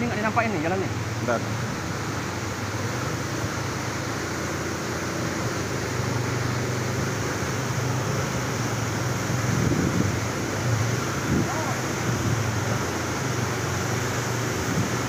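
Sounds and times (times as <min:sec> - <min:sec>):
even hiss: 0:00.0 - 0:15.0.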